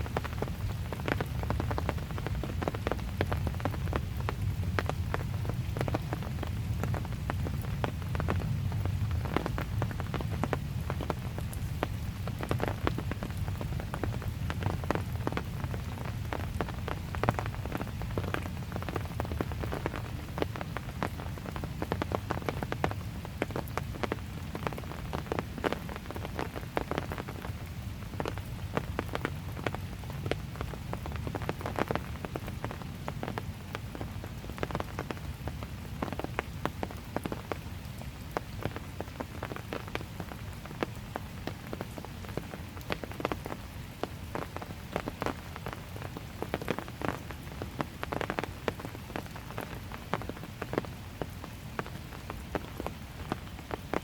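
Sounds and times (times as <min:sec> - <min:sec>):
rain falling: 0:00.0 - 0:54.0
raindrops tapping sharply: 0:00.0 - 0:54.0.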